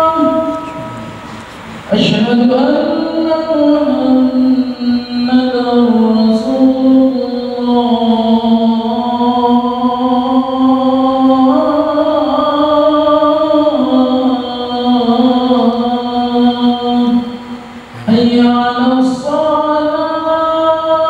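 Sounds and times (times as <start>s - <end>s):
man chanting: 0.0s - 21.0s.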